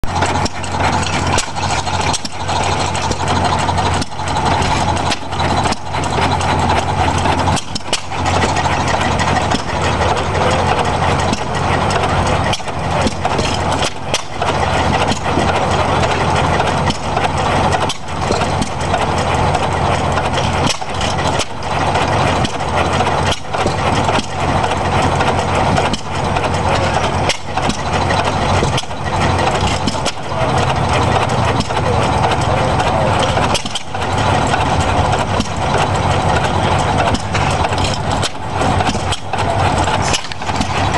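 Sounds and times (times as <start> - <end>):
engine exhaust pops: 0.0 - 10.3, 11.2 - 32.6, 33.2 - 40.9
engines humming: 0.0 - 40.9.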